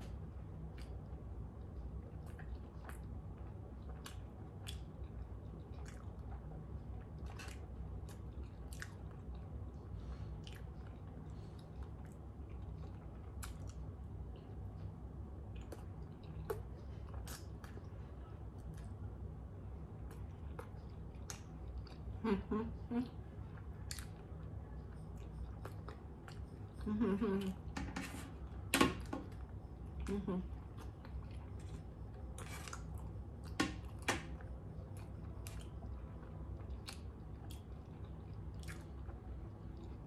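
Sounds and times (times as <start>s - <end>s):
person chewing food: 0.0s - 19.0s, 20.0s - 22.2s, 23.0s - 27.6s, 28.4s - 40.0s
low room hum: 0.0s - 40.0s.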